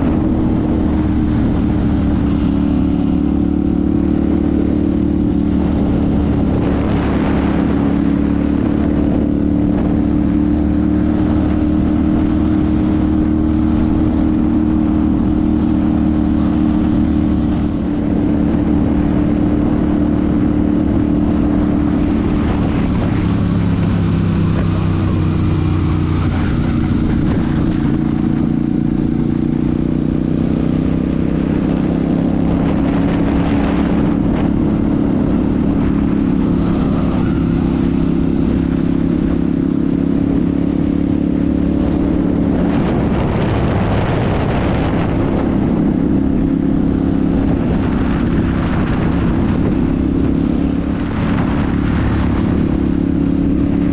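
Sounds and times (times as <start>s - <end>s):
motorcycle engine and exhaust: 0.0s - 53.9s.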